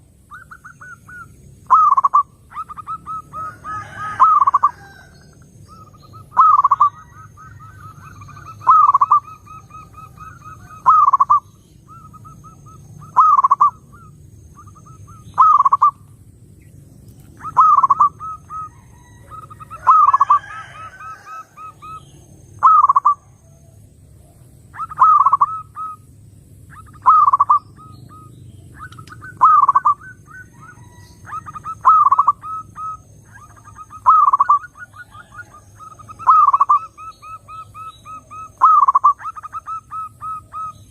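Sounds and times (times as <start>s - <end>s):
dove cooing: 0.0s - 16.1s, 17.2s - 26.1s, 26.7s - 40.9s.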